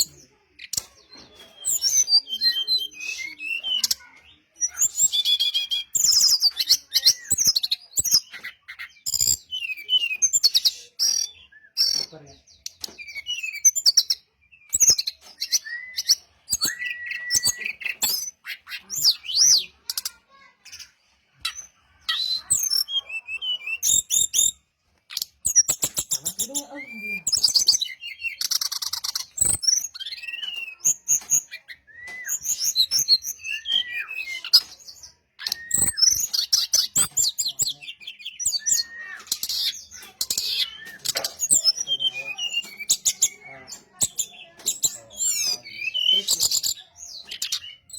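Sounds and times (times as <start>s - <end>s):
bird singing whistled trills: 1.3s - 19.7s, 25.2s - 47.9s.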